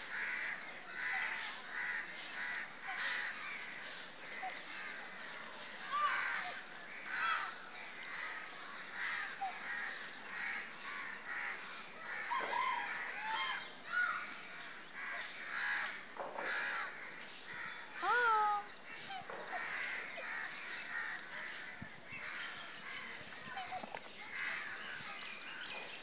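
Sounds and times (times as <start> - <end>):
chorus of birds calling: 0.0 - 26.0.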